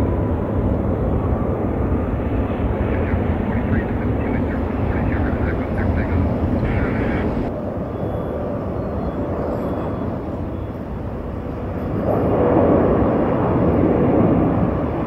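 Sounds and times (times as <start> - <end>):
jet engine rushing rumble: 0.0 - 15.0.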